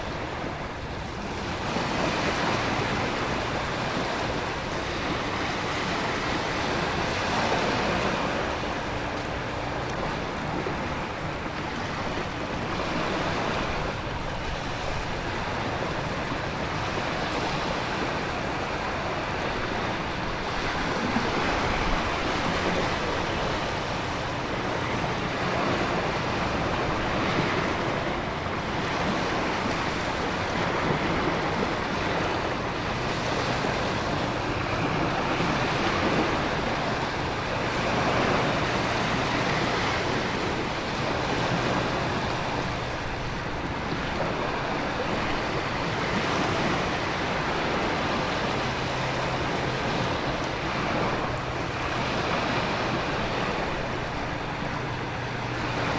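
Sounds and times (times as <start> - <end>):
ocean surf crashing: 0.0 - 55.9
wind: 0.0 - 55.9.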